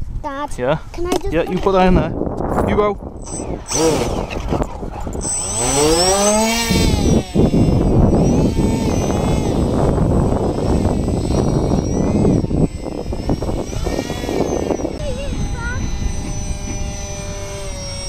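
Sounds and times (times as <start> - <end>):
wind rumble on microphone: 0.0 - 18.0
electric motor propeller whine: 3.0 - 18.0.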